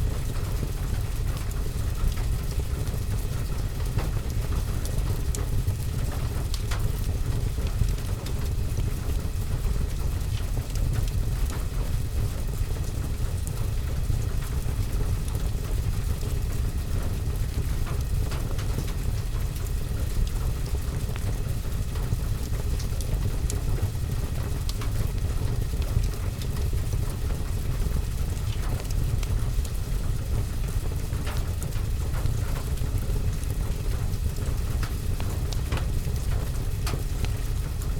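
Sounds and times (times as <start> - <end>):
fireplace fire: 0.0 - 37.9
rain on window and roof: 0.0 - 37.9.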